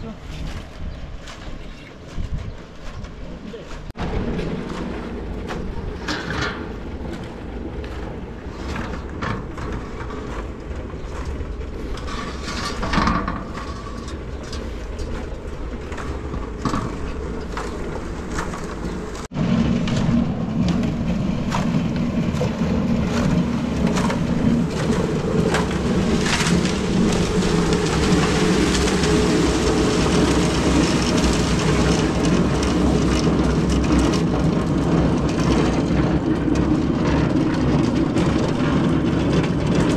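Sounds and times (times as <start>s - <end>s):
concrete mixer churning: 0.0s - 39.9s.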